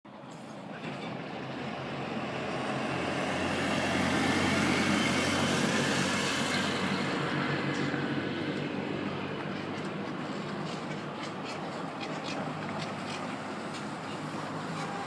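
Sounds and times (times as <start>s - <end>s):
vehicle rumble and hiss: 0.1s - 15.0s.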